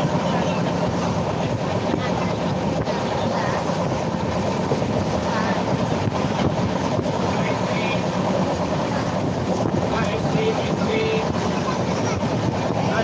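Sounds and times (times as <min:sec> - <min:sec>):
train wheels rumbling on rails: 0:00.0 - 0:13.0
wind noise: 0:00.0 - 0:13.0.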